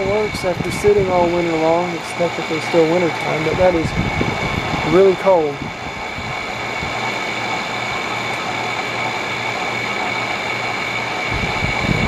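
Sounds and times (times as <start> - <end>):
high whine: 0.0 - 12.0
low rumbling: 0.0 - 12.0
window air conditioner humming: 0.0 - 12.0.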